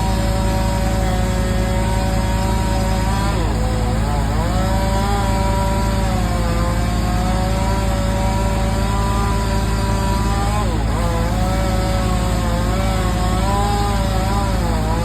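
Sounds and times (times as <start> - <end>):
engine running loudly: 0.0 - 15.0.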